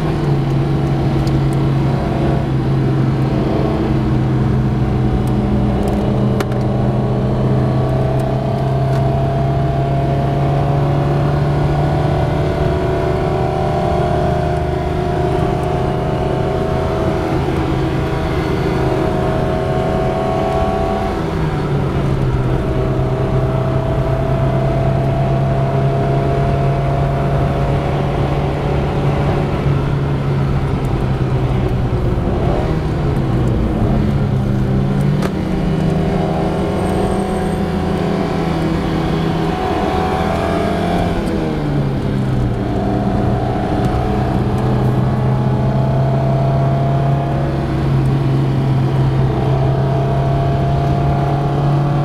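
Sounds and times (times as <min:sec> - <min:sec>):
car engine running: 0:00.0 - 0:52.0
road noise: 0:00.0 - 0:52.0.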